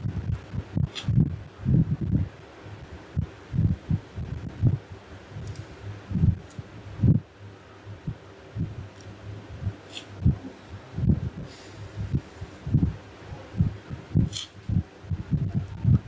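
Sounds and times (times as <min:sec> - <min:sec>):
dull low thuds: 0:00.0 - 0:02.3, 0:03.2 - 0:04.8, 0:05.4 - 0:06.4, 0:07.0 - 0:07.3, 0:07.9 - 0:08.9, 0:09.5 - 0:16.0
low electrical hum: 0:00.0 - 0:16.0.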